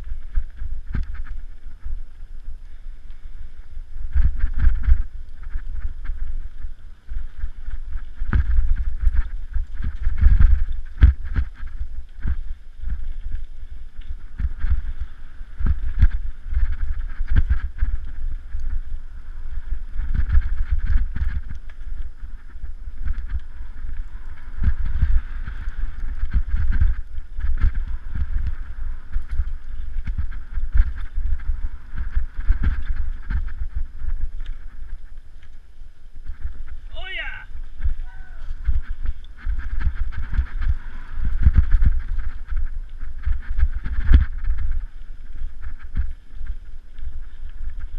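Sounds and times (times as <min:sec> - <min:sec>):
bike knocking and rattling: 0:00.0 - 0:02.4, 0:03.0 - 0:36.9, 0:37.6 - 0:47.9
tyres rumbling on trail: 0:00.0 - 0:47.9
wind buffeting microphone: 0:00.0 - 0:47.9.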